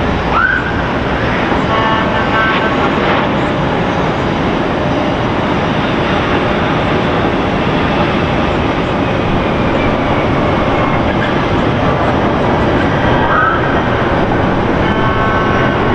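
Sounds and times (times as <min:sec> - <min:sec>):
jet engine rush: 0:00.0 - 0:15.9.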